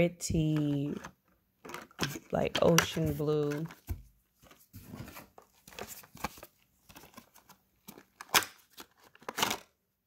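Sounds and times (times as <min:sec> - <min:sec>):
packaging rustling: 0:01.6 - 0:09.7.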